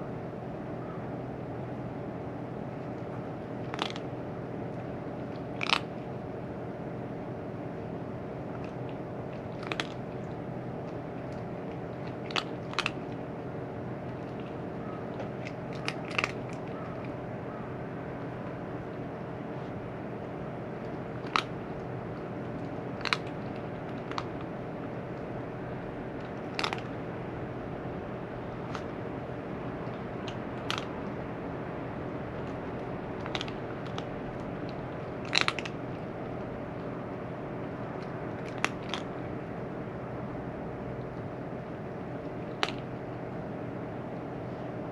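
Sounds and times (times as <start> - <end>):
steady low hum: 0.0 - 44.9
cat crunching food: 1.4 - 44.7.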